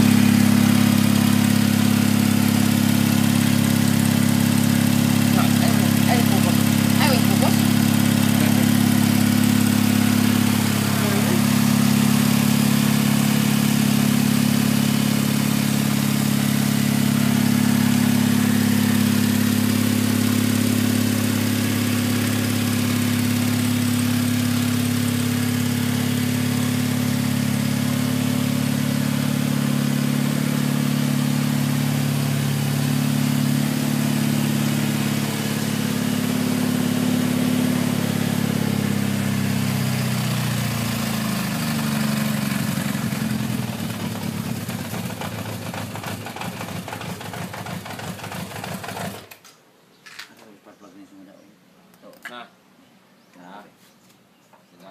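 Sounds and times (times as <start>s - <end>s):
motorcycle engine idling: 0.0s - 49.3s.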